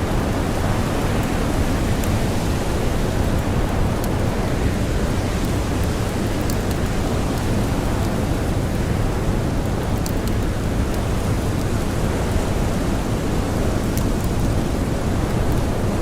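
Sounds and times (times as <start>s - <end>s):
campfire crackles: 0.0s - 16.0s.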